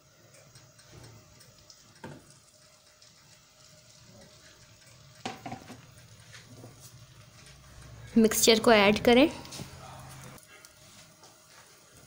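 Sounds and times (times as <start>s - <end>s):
egg frying with faint sizzle: 0.0s - 12.0s.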